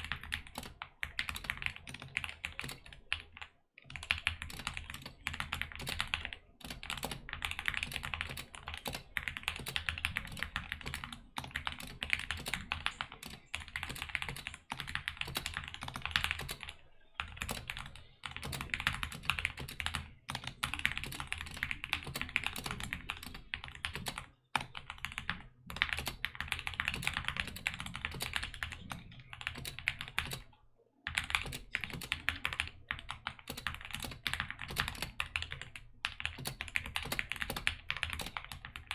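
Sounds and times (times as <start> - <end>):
fast typing on mechanical keyboard: 0.0 - 30.5, 31.1 - 38.9.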